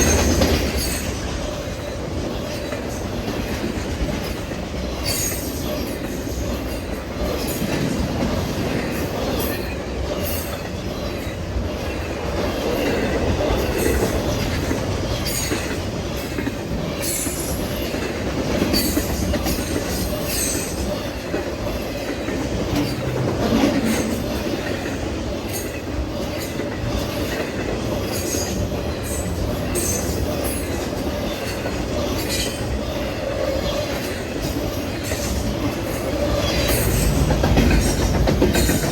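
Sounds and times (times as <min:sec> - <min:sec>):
freight train rumbling past: 0:00.0 - 0:38.9
wheels clicking over rail joints: 0:00.0 - 0:38.9.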